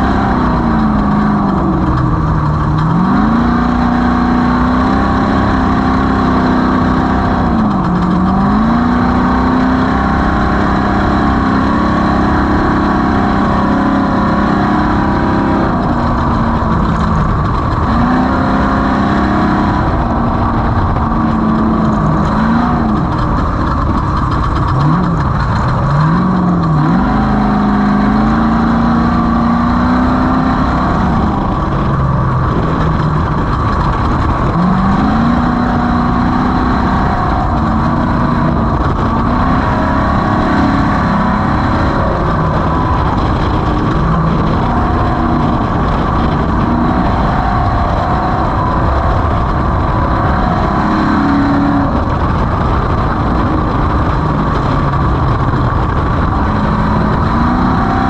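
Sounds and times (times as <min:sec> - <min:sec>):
loud rushing noise: 0:00.0 - 0:58.0
race vehicle engine revving: 0:00.0 - 0:58.0.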